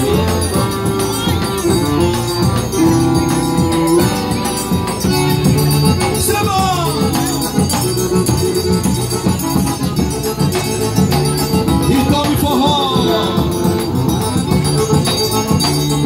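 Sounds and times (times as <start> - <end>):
accordion chords: 0.0 - 16.0
drum beats: 0.0 - 16.0
light percussion rattling: 0.0 - 16.0.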